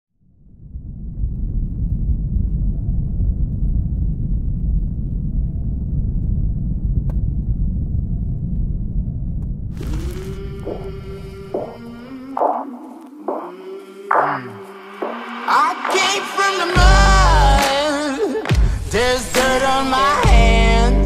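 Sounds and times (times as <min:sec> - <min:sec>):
deep cinematic rumble: 0:00.2 - 0:13.5, 0:14.1 - 0:17.6.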